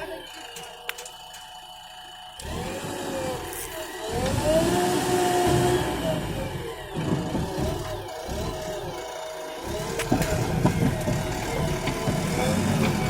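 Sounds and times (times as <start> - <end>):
diesel engine revving: 2.0 - 13.0.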